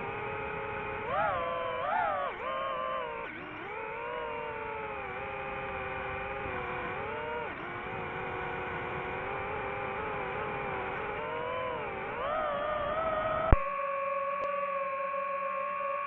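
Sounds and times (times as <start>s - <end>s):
drone propellers whining: 0.0s - 16.0s
steady hum: 0.0s - 16.0s.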